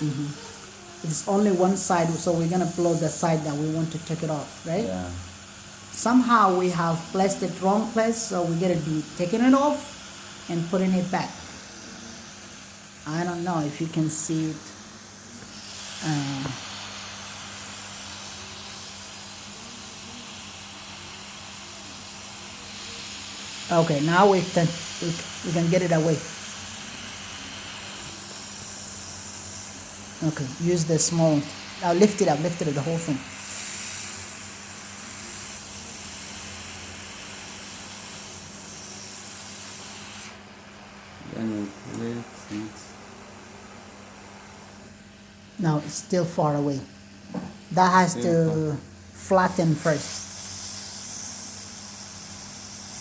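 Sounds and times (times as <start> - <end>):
hot-air blower hissing: 0.0 - 53.0
low electrical hum: 0.0 - 53.0.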